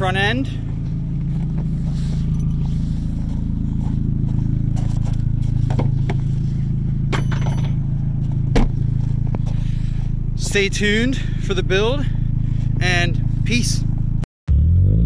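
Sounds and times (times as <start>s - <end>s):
car engine idling: 0.0s - 14.2s.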